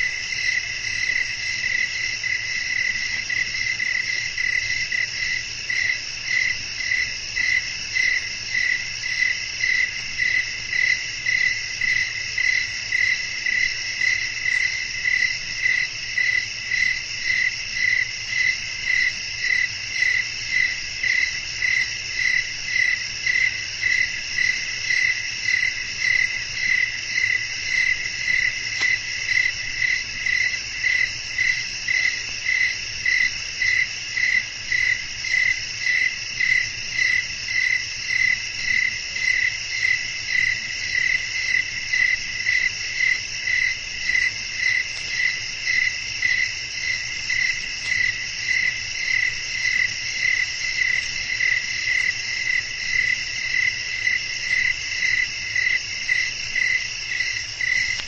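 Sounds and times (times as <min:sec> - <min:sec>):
cricket chirping: 0:00.0 - 0:58.0
high-pitched insect trill: 0:00.0 - 0:58.0.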